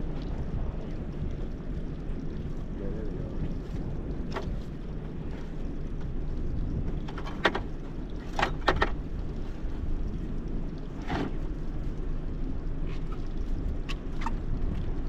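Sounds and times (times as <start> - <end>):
water around a boat: 0.0 - 15.0
wind: 0.0 - 15.0.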